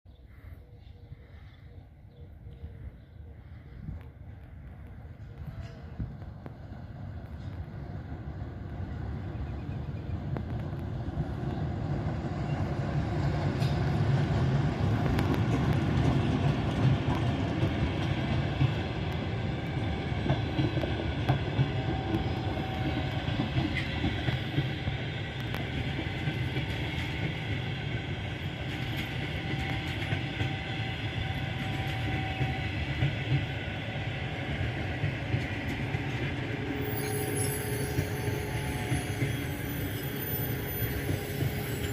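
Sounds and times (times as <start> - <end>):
train rumbling past: 2.2 - 41.9.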